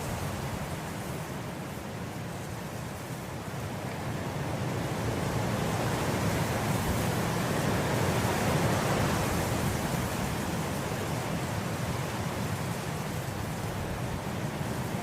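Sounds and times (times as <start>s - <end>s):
wind blowing through grass: 0.0s - 15.0s.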